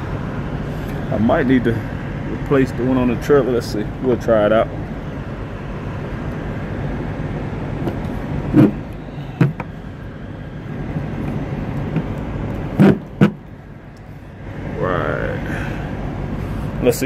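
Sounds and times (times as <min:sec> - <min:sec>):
diesel truck engine rumble: 0:00.0 - 0:17.0.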